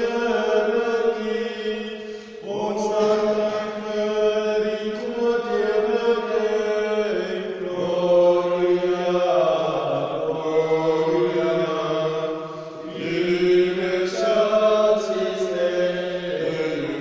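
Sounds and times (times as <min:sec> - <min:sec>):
slow chant singing: 0:00.0 - 0:17.0.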